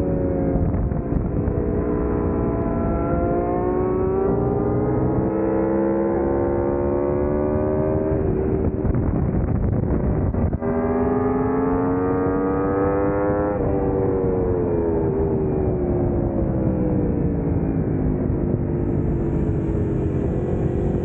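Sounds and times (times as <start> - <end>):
wind rush: 0.0 - 5.2, 7.5 - 12.4, 13.0 - 21.0
motorcycle engine revving: 0.0 - 15.6, 18.2 - 21.0.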